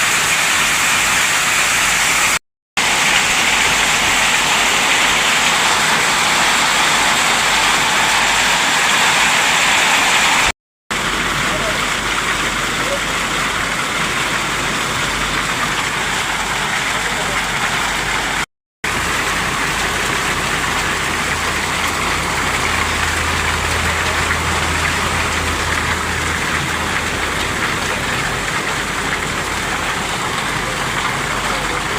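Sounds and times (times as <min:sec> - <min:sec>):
heavy rain hissing: 0:00.0 - 0:31.9.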